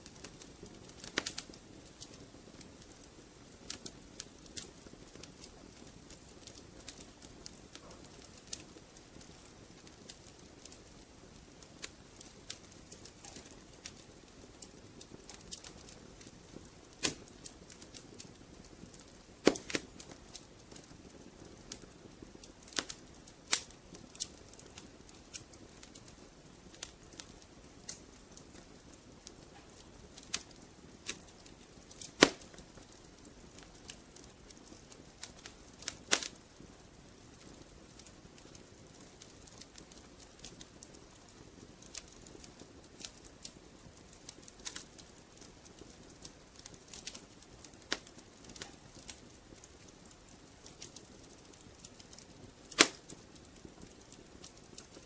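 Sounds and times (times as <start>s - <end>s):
fire pops and snaps: 0.0s - 55.0s
wood fire crackling: 0.0s - 55.0s.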